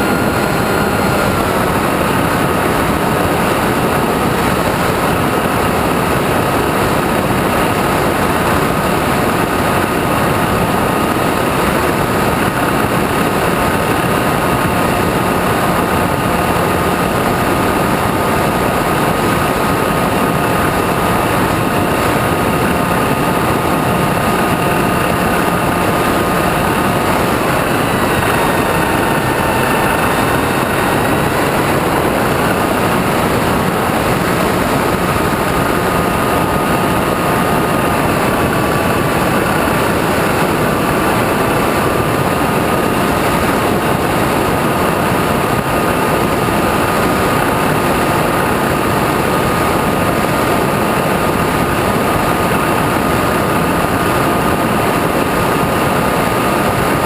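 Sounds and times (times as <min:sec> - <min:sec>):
model airplane motor whine: 0:00.0 - 0:57.0
rushing wind noise: 0:00.0 - 0:57.0.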